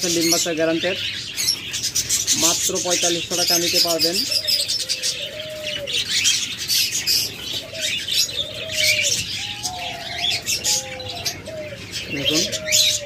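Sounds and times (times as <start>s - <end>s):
caged birds chirping: 0.0s - 13.0s
doves cooing: 0.0s - 13.0s.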